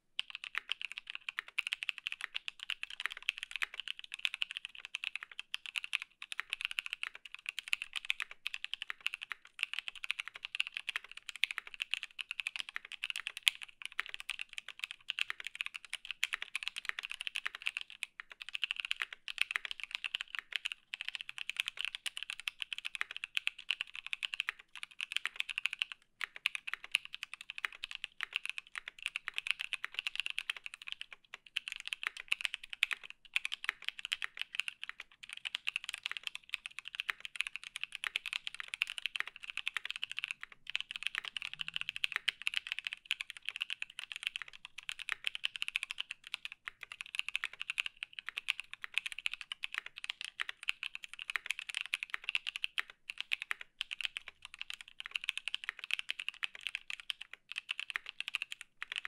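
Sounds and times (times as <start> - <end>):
mechanical keyboard typing: 0.2 - 59.0.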